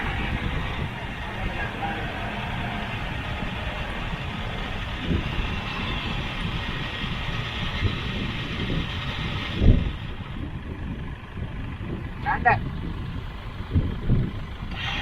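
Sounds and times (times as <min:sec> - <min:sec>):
off-road vehicle engine rumble: 0:00.0 - 0:15.0.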